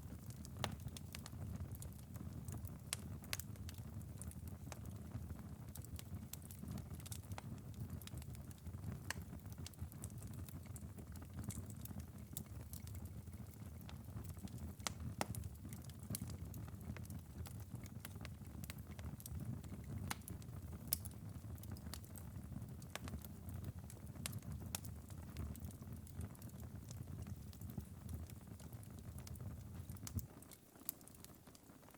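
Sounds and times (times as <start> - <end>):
embers crackling and popping: 0.0 - 31.9
low steady fire rumble: 0.0 - 31.9.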